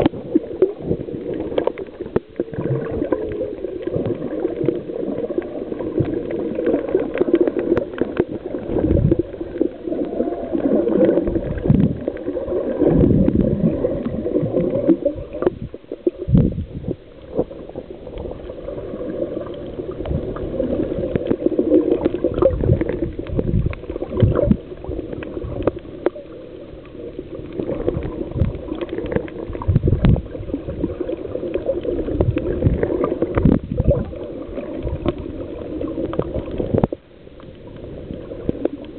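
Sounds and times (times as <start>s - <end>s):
muffled water sloshing underwater: 0.0s - 38.9s.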